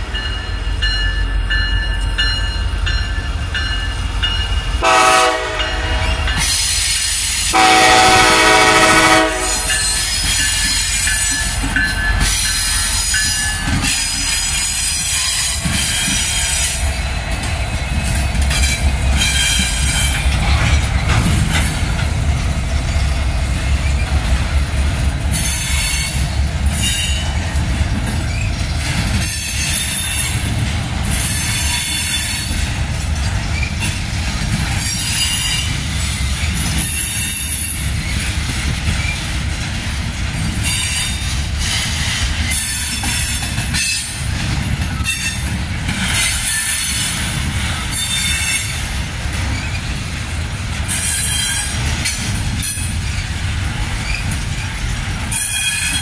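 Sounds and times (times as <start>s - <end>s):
low rumble of train wheels: 0.0s - 56.0s.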